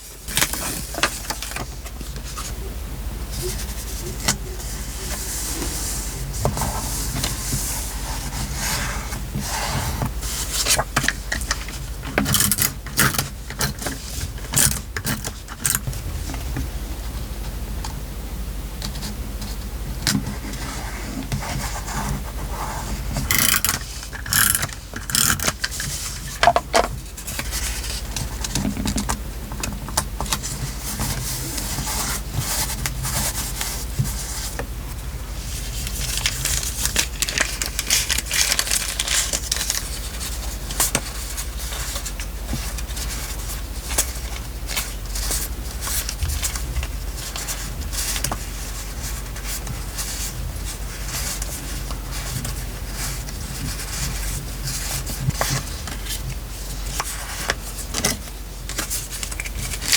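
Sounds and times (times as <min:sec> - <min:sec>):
paper rustling and rubbing: 0:00.0 - 0:02.7, 0:03.3 - 0:17.6, 0:18.8 - 0:29.1, 0:30.2 - 0:59.9.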